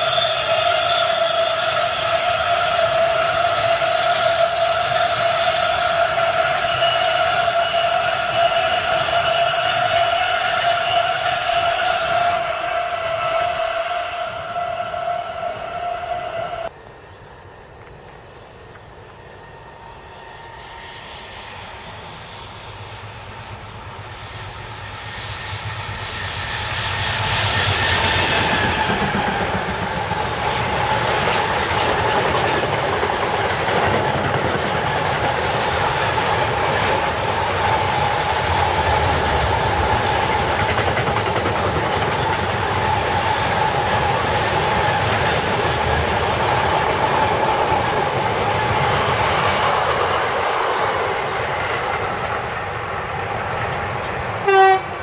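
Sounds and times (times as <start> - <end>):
train passing: 0.0 - 55.0.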